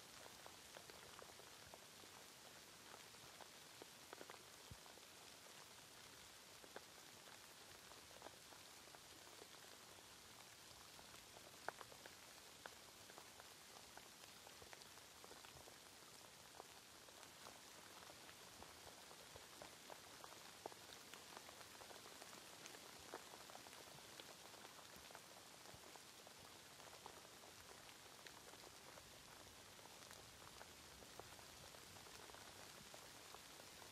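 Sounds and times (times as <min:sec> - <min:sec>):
raindrops ticking: 0:00.0 - 0:33.9
steady rain hiss: 0:00.0 - 0:33.9.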